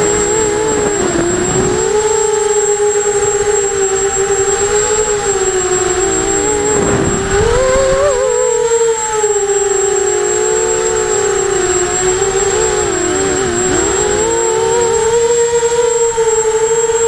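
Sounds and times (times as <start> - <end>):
drone motors whining: 0.0 - 17.0
high-pitched steady tone: 0.0 - 17.0.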